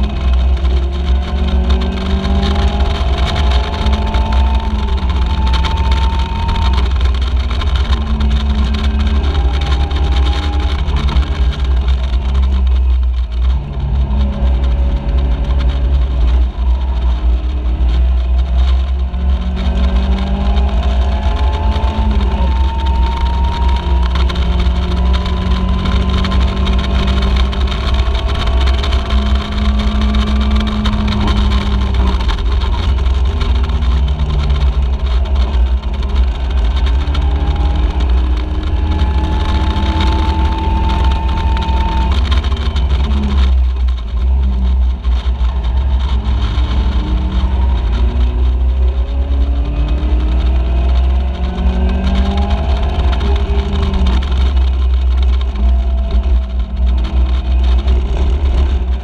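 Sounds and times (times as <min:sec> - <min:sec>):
race car engine revving: 0:00.0 - 0:59.0
wind and road noise rumble: 0:00.0 - 0:59.0.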